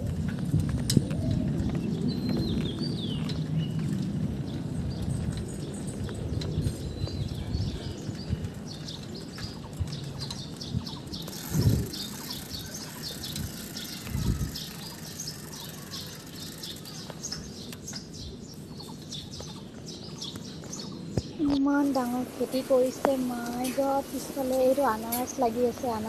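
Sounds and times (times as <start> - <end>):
small birds chirping: 0.9 - 26.0.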